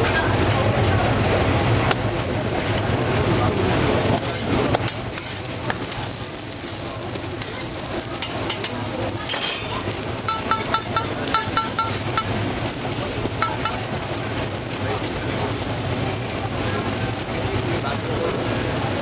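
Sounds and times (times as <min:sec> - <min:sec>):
pancakes sizzling on a griddle: 0:00.7 - 0:19.0.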